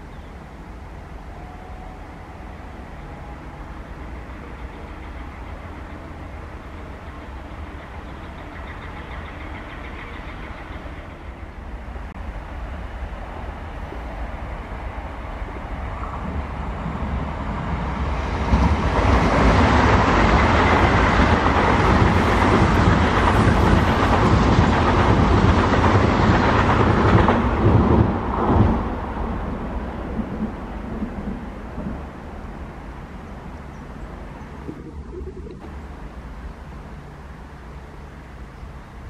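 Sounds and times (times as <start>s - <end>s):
diesel locomotives passing: 0.0s - 39.0s.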